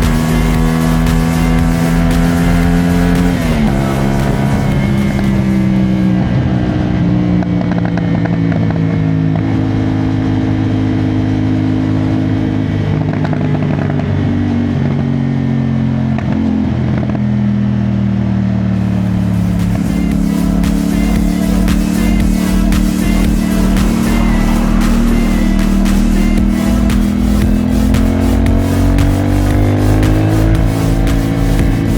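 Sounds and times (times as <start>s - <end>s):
motorcycle engine and exhaust: 0.0s - 31.9s.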